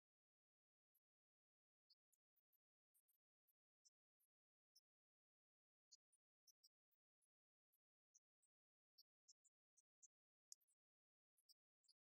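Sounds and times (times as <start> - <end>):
faint ticks: 0.0 - 12.0.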